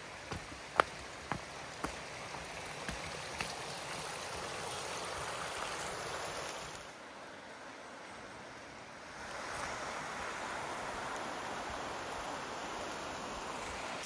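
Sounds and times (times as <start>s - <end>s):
creek rushing: 0.0s - 14.0s.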